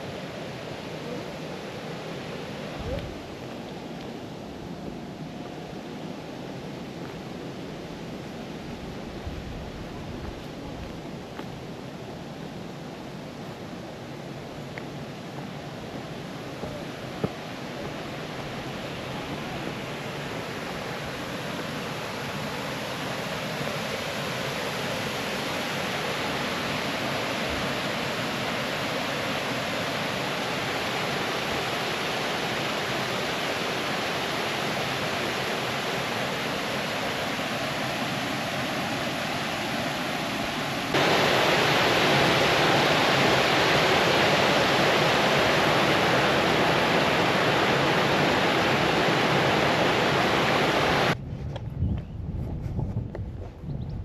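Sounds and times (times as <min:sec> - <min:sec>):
water rushing: 0:00.0 - 0:51.2.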